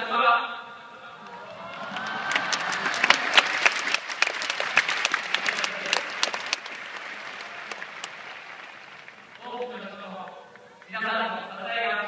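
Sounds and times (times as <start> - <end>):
crowd applauding: 1.2 - 11.1.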